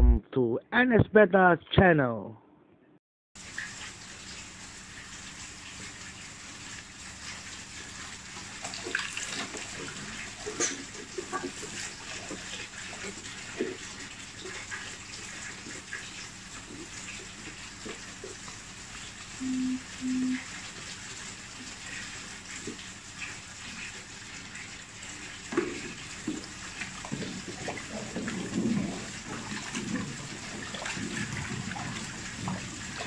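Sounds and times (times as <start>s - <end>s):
water splashing in a basin: 3.4s - 33.0s.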